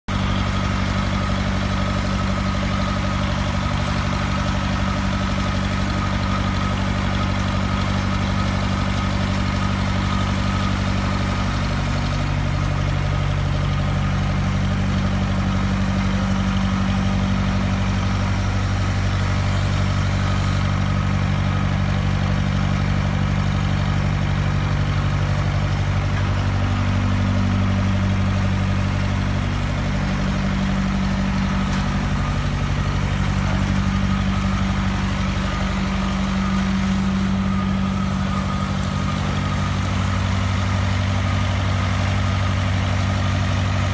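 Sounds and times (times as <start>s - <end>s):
high machine whine: 0.1s - 43.9s.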